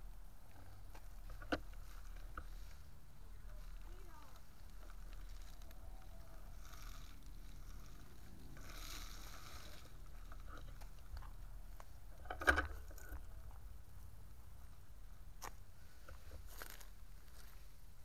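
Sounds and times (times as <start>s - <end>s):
soft rustling hiss: 0.0s - 18.0s.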